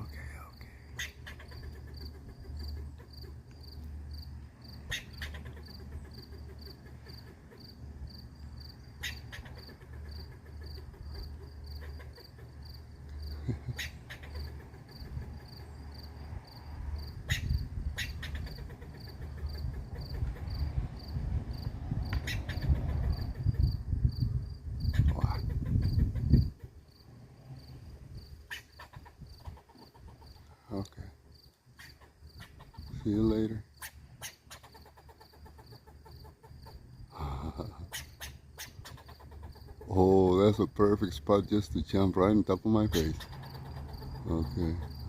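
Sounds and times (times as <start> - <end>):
cricket chirping: 0.0 - 45.0.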